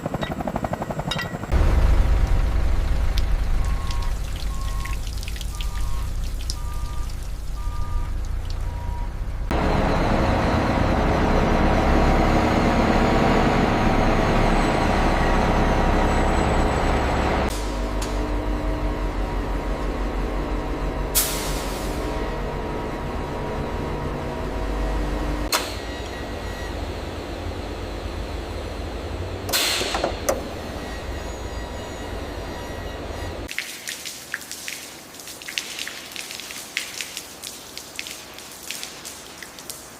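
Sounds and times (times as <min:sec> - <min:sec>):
heavy engine droning: 0:00.0 - 0:33.5.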